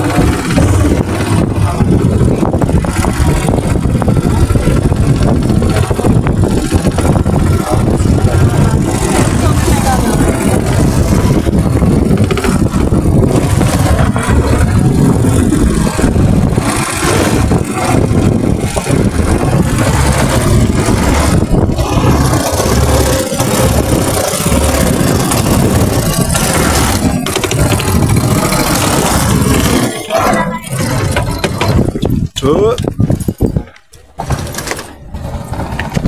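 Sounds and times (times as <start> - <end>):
boat engine running: 0.0 - 36.0.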